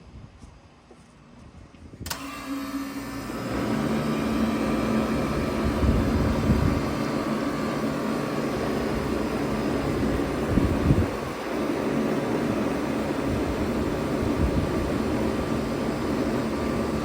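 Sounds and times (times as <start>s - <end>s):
heat pump hum and air rush: 0.0s - 17.0s.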